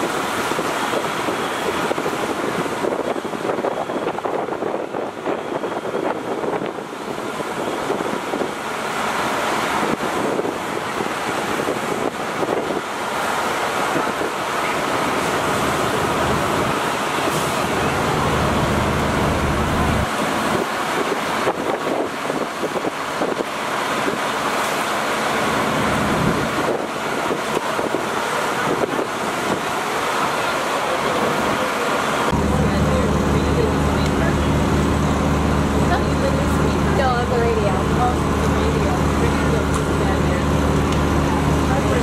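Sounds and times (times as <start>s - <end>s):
constant rushing noise: 0.0s - 42.0s
fire engine motor running: 0.0s - 42.0s.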